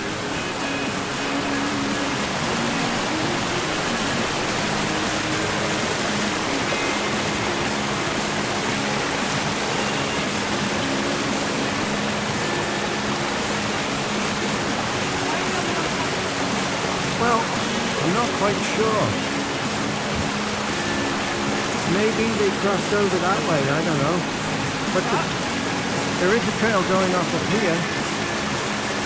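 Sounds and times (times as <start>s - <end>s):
rushing whitewater: 0.0s - 29.0s.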